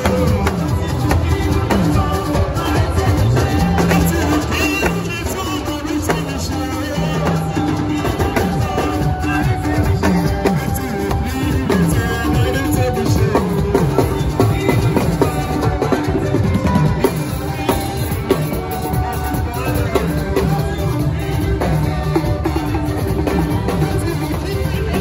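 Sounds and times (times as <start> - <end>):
live band music: 0.0 - 25.0
talking drum pitch-bending strokes: 0.0 - 25.0.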